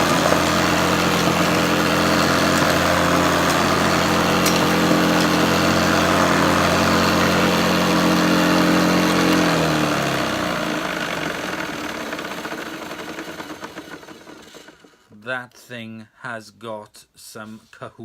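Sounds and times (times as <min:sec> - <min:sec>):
vacuum cleaner motor winding down: 0:00.0 - 0:15.1.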